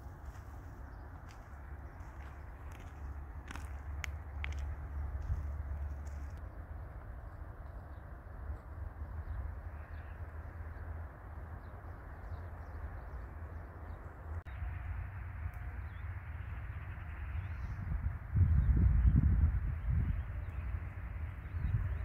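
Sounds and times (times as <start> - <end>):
wind rumbling on microphone: 0.0 - 14.8, 16.6 - 22.0.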